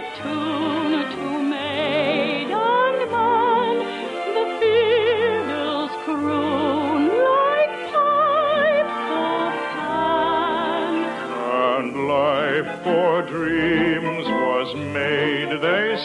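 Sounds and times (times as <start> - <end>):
orchestral accompaniment: 0.0 - 16.0
person singing with vibrato: 0.0 - 16.0.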